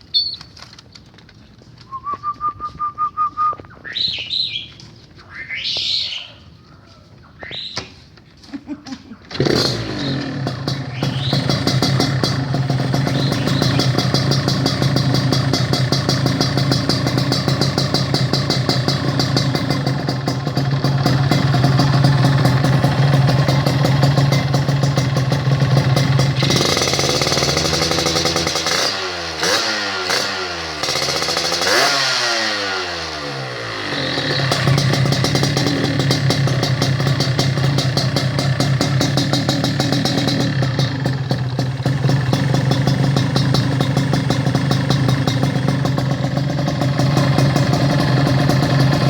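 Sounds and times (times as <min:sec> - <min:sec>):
motorcycle engine idling and revving: 0:09.3 - 0:49.0.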